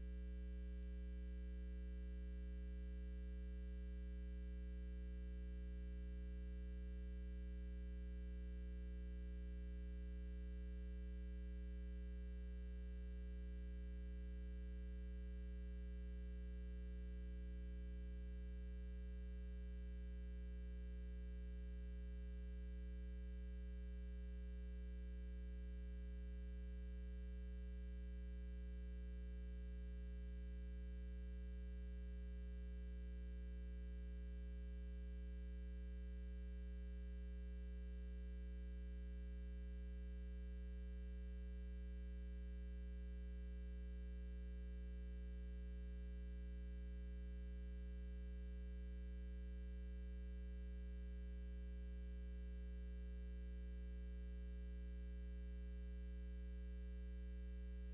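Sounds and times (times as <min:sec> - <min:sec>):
electrical mains hum: 0:00.0 - 0:57.9.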